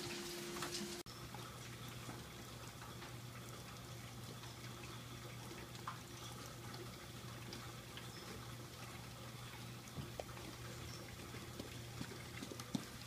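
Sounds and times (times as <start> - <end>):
drips on concrete: 1.0 - 13.0.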